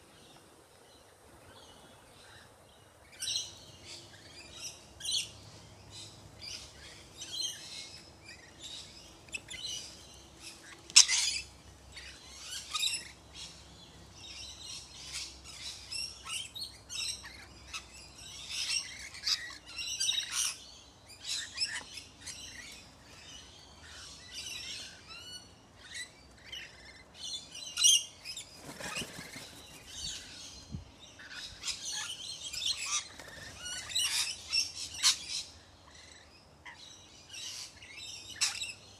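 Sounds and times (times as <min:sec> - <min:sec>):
lorikeets chattering: 0:02.2 - 0:38.9.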